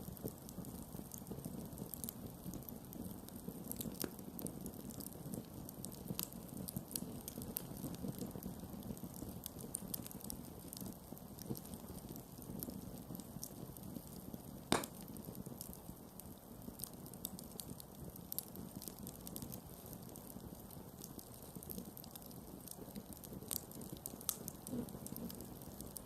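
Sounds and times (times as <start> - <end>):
burning wood crackling and popping: 0.0 - 26.0
rush of campfire flames: 0.0 - 26.0.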